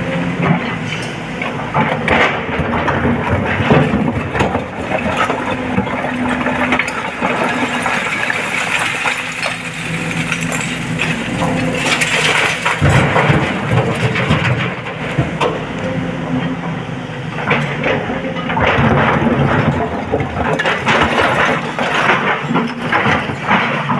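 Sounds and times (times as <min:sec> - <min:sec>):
excavator diesel engine under load: 0:00.0 - 0:23.9
rock and earth clattering: 0:00.5 - 0:15.7, 0:17.4 - 0:23.9.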